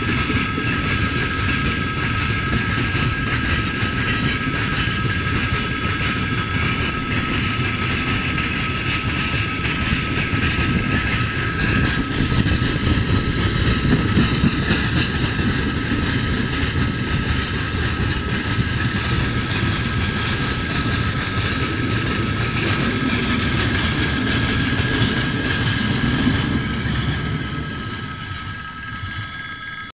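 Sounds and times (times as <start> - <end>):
freight train wheels rumbling: 0.0 - 29.9
level-crossing warning bell: 0.0 - 29.9.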